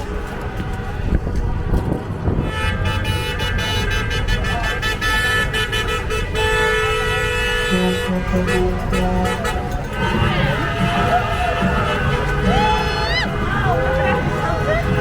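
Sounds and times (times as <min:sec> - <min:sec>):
low rumble of traffic: 0:00.0 - 0:15.0
truck air horns blasting: 0:00.5 - 0:15.0.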